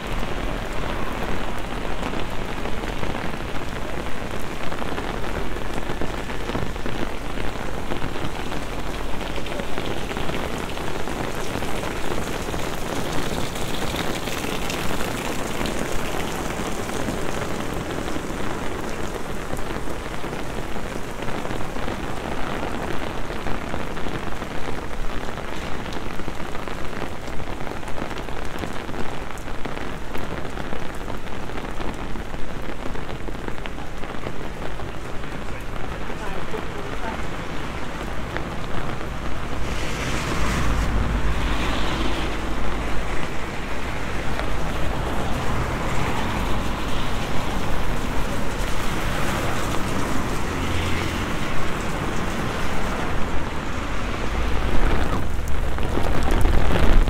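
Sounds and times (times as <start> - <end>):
heavy rain on a wet street: 0.0 - 57.0.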